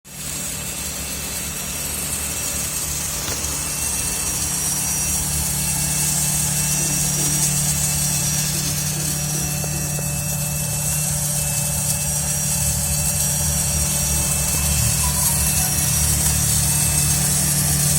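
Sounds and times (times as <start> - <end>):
small motor whirring hum: 0.1 - 17.9.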